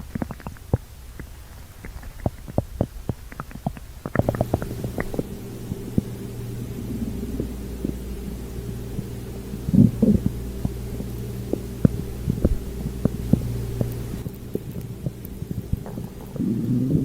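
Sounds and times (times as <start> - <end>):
steady low hum: 0.0 - 17.0
stomach gurgling: 0.0 - 17.0.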